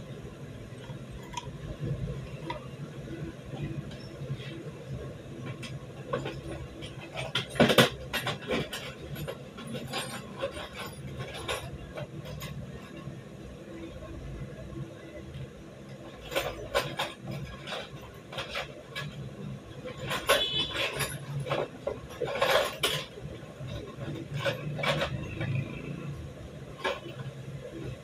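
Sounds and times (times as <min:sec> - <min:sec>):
metal parts and tools clinking: 0:00.0 - 0:28.0.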